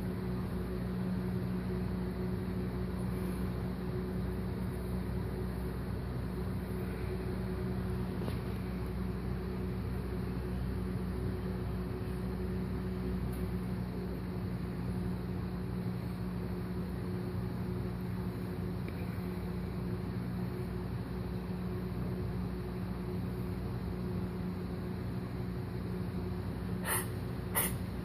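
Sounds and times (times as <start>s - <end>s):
mechanical hum with hiss: 0.0s - 28.0s.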